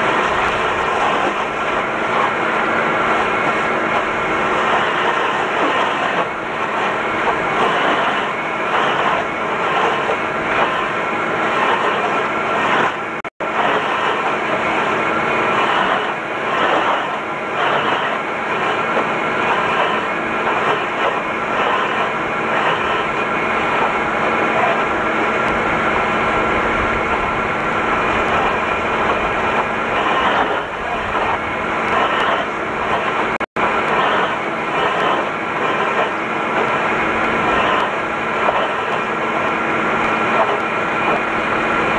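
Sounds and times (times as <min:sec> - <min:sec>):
tractor running under load: 0:00.0 - 0:41.9.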